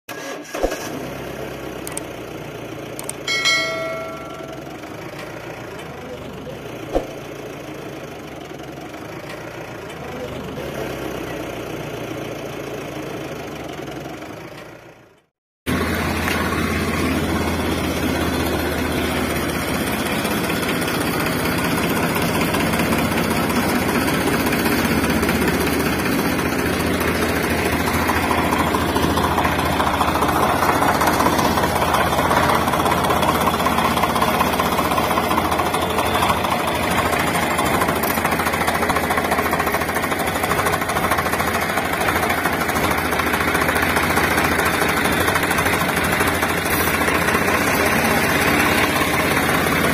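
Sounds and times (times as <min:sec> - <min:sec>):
engine idling with rattling hum: 0:00.2 - 0:49.9.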